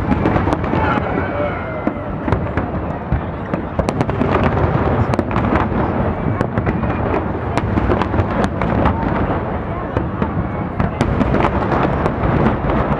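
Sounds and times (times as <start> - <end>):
fireworks crackling and popping: 0.0 - 12.9
fireworks rumbling bursts: 0.0 - 12.9.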